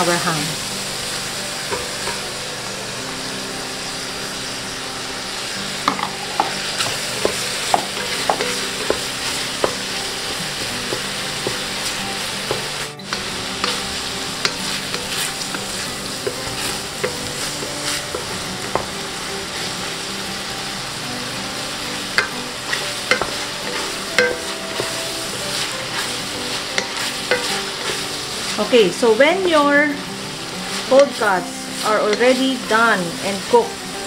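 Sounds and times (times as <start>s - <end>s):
meat sizzling in a pot: 0.0s - 34.0s.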